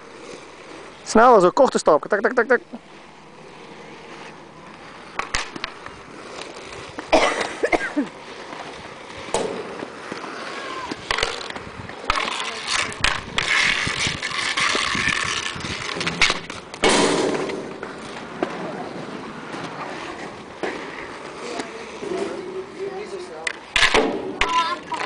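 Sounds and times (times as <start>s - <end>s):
skate wheels rolling on asphalt: 0.0s - 25.0s.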